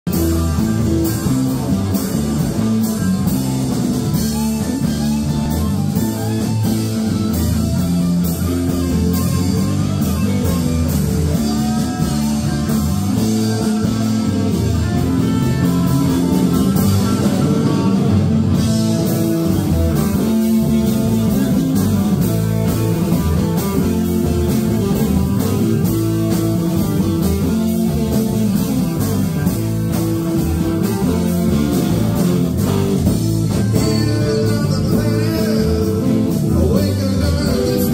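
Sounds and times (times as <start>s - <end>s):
electric guitar: 0.0s - 37.9s
drum kit beat: 0.1s - 37.9s.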